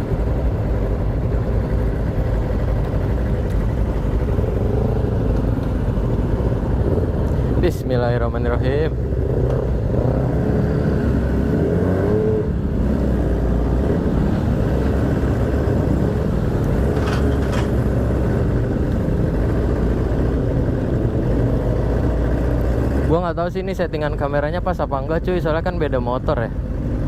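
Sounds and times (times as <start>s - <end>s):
motorcycle engine running: 0.0s - 25.5s.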